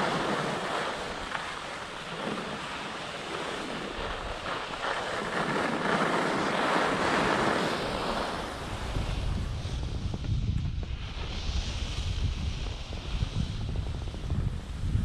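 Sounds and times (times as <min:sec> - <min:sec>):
skis scraping over snow: 0:00.0 - 0:15.0
wind buffeting microphone: 0:00.0 - 0:15.0.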